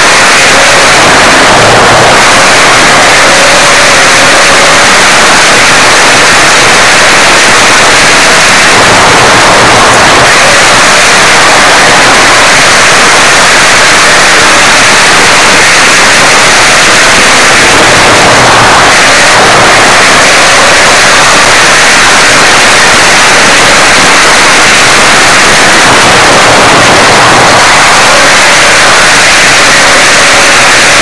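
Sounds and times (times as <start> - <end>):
distorted engine and wind noise: 0.0 - 31.0.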